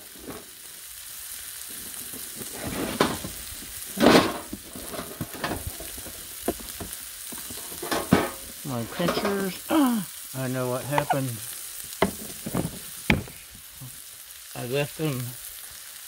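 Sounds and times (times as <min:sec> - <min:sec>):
steaks sizzling on griddle: 0:00.0 - 0:16.0.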